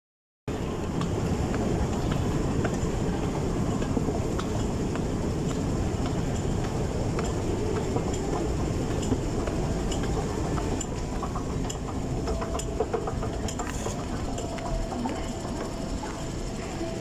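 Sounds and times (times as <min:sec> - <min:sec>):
moving walkway rumbling: 0:00.5 - 0:17.0.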